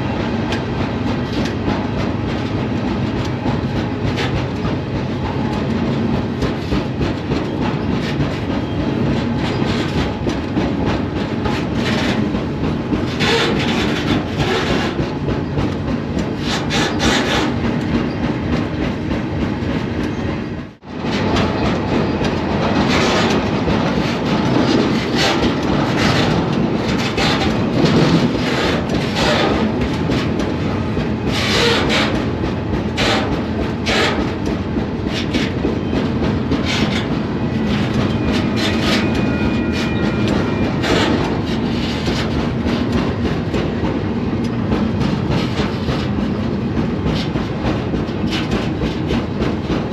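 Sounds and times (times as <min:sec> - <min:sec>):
train rumble: 0:00.0 - 0:49.9
metallic rattling and clatter: 0:00.5 - 0:20.3, 0:20.9 - 0:49.9.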